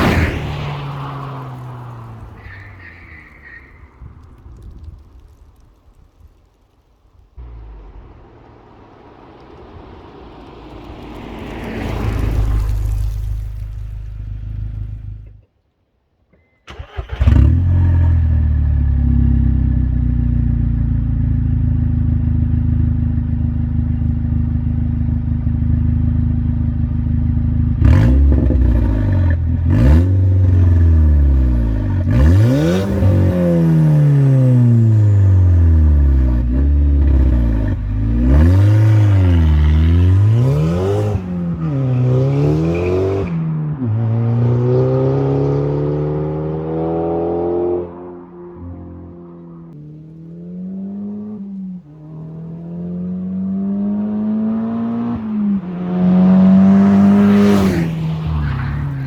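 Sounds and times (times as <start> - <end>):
car engine idling and revving: 7.4 - 15.5, 16.4 - 59.0.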